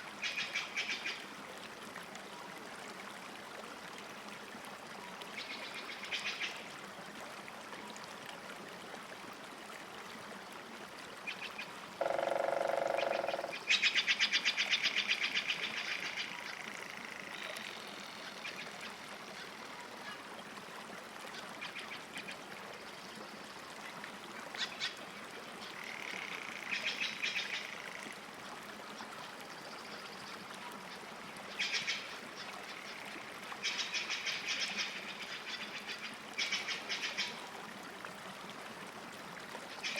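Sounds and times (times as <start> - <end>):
soft lakeside hiss: 0.0 - 39.9.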